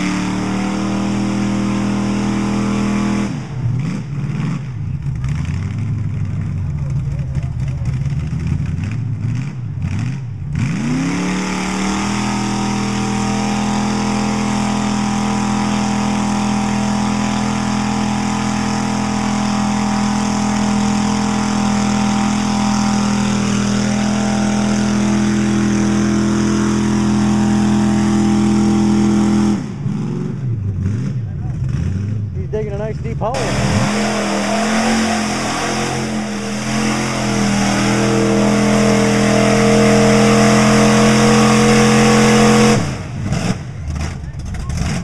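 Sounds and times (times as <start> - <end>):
pickup truck engine revving: 0.0 - 45.0.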